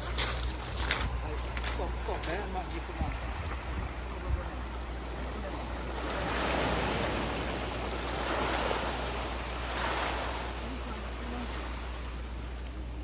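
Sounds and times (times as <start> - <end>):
people wading and splashing: 0.0 - 13.0
small waves on pebble shore: 0.0 - 13.0.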